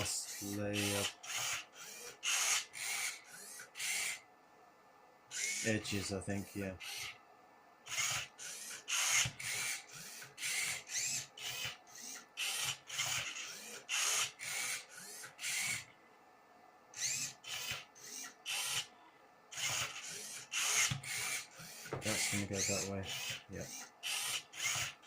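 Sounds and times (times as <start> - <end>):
robot motors whirring and grinding: 0.0 - 4.2, 5.3 - 6.1, 7.9 - 15.9, 17.0 - 18.9, 19.5 - 25.0.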